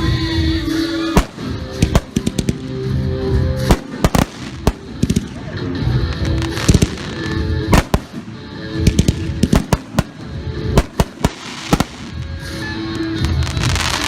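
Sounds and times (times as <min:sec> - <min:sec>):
continuous rush of fireworks: 0:00.0 - 0:14.0
fireworks bangs: 0:01.0 - 0:14.0.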